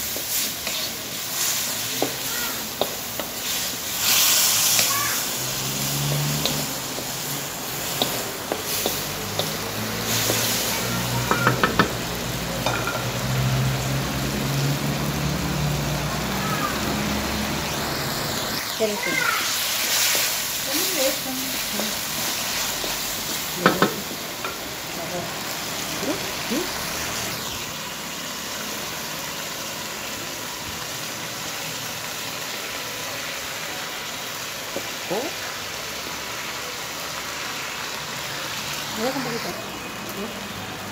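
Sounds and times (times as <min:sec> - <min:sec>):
food sizzling in a wok: 0:00.0 - 0:40.9.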